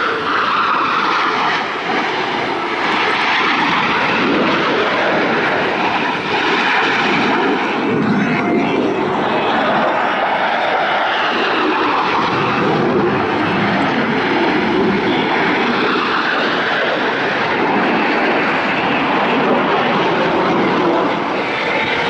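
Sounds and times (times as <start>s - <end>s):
fighter jet flying past: 0.0s - 22.0s.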